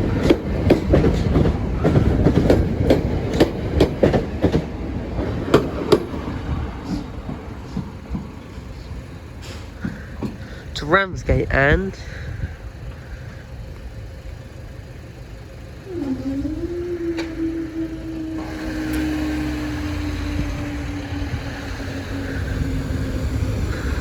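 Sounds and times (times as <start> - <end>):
electric train motors whining: 0.0 - 24.0.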